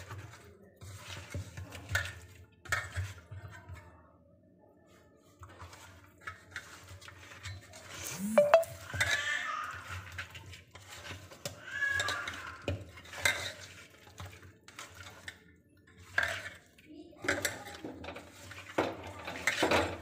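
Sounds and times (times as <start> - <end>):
hands mixing wet fish: 0.0 - 3.5, 4.9 - 20.0.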